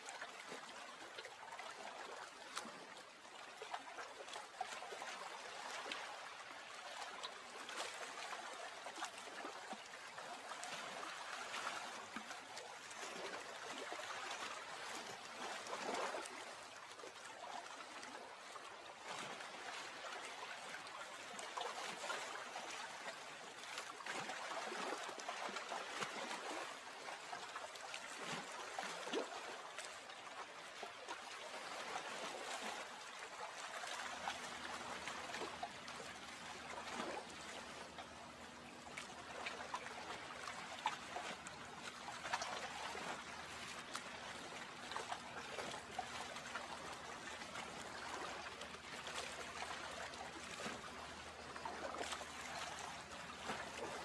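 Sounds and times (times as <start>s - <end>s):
water lapping and trickling: 0.0s - 54.0s
small splashes: 0.1s - 54.0s.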